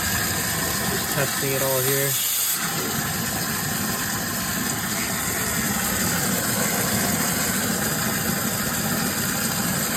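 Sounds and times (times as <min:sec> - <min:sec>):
sump pump motor hum: 0:00.0 - 0:09.9
water rushing through pump: 0:00.0 - 0:09.9.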